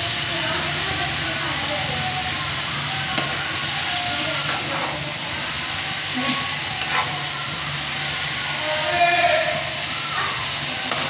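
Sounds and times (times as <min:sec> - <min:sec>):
food sizzling in a metal pot: 0:00.0 - 0:11.0.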